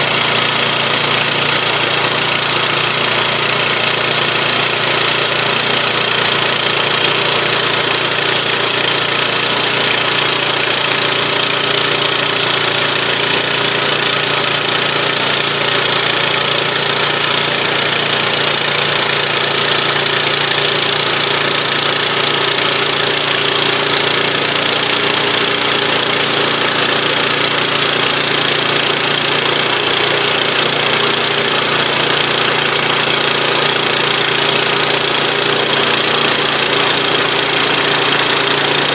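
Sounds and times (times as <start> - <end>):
band sawmill engine running: 0.0 - 38.9
saw blade cutting log: 0.0 - 38.9.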